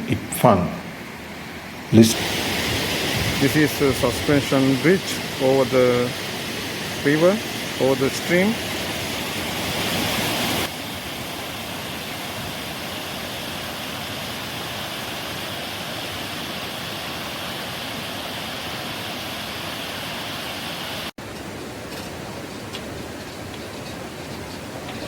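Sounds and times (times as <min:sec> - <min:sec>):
stream rushing over rocks: 0:01.2 - 0:23.2.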